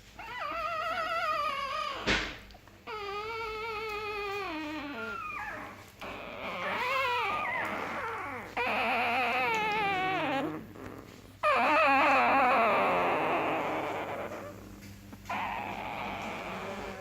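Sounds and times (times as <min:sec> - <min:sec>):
dog whining: 0:00.0 - 0:17.0.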